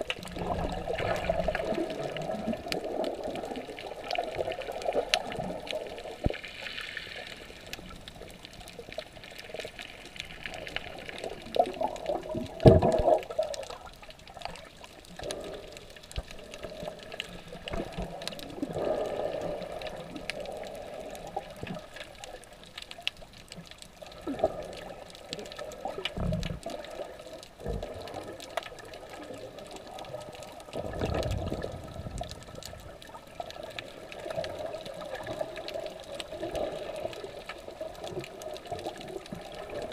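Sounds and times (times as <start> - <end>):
faint crackling clicks: 0.0 - 39.9
muffled underwater water sloshing: 0.0 - 39.9.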